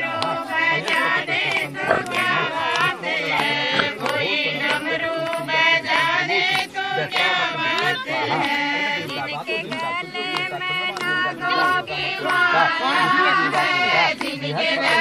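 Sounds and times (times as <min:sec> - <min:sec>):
hand claps: 0:00.0 - 0:15.0
women singing together: 0:00.0 - 0:15.0.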